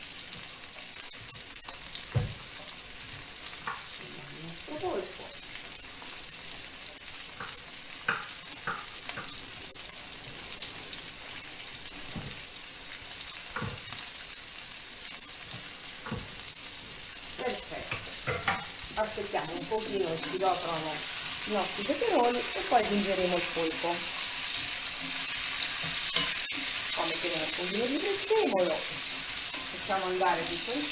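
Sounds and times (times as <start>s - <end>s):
peppers sizzling in oil: 0.0s - 30.9s.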